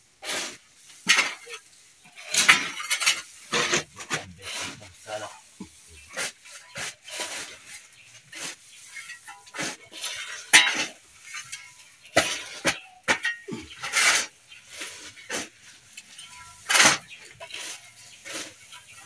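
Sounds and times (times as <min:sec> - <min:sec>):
shovel scraping soil: 0:00.2 - 0:05.4, 0:06.0 - 0:19.0.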